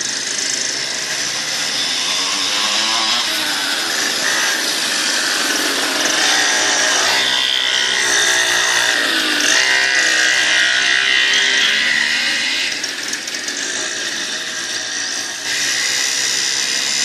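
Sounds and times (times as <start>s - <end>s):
small dirt bike engine revving: 0.0s - 17.0s.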